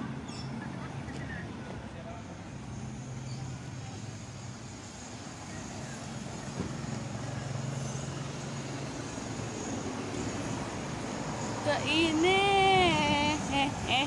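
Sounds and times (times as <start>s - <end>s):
street traffic: 0.0s - 14.0s
vehicle engine humming: 0.0s - 14.0s.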